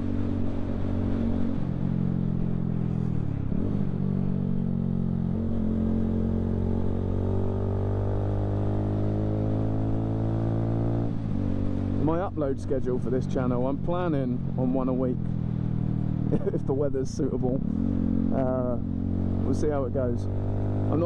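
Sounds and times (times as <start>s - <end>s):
motorcycle engine revving: 0.0s - 12.3s, 13.3s - 21.0s.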